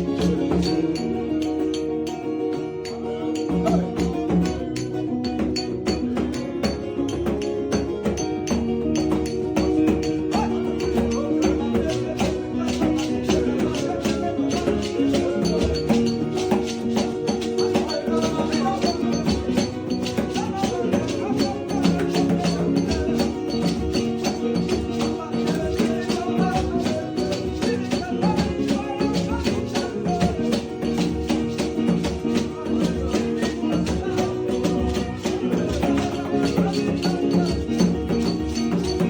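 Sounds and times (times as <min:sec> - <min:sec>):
shaker rhythm: 0:00.0 - 0:39.0
sustained keyboard chords: 0:00.0 - 0:39.0.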